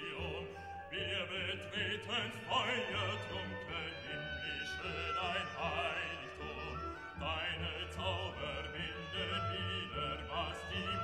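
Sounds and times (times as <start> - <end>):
operatic singing with orchestra: 0.0 - 11.0.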